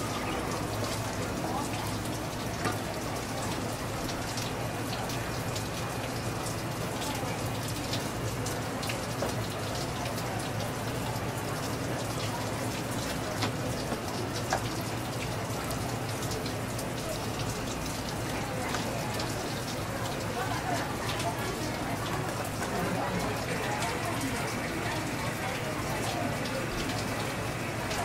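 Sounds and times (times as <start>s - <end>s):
tap water splashing: 0.1s - 28.0s.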